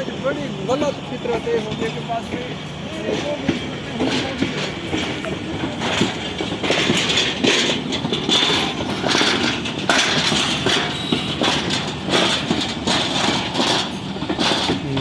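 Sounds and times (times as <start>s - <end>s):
train running rumble: 0.0s - 15.0s
train wheels clacking over rail joints: 0.0s - 15.0s.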